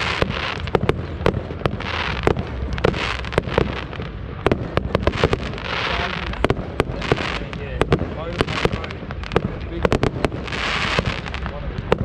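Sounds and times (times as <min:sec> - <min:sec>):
firework bangs and cracks: 0:00.0 - 0:12.0
firework hissing and crackling: 0:00.0 - 0:12.0.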